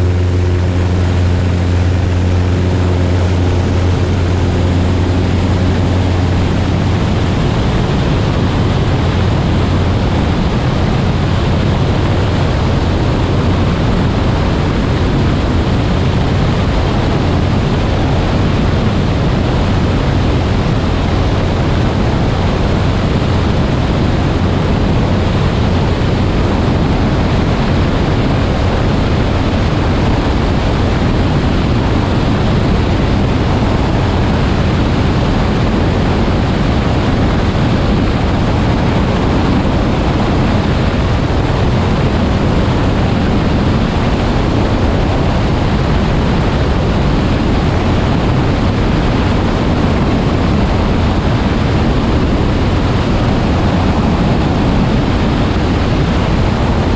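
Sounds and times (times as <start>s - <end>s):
airplane engine noise: 0.0s - 56.9s
wind rushing on microphone: 0.0s - 56.9s.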